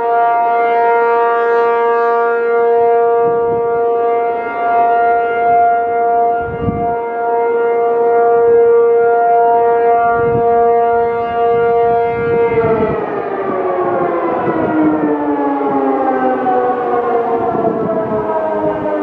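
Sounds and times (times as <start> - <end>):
civil defense siren winding down: 0.0 - 19.0.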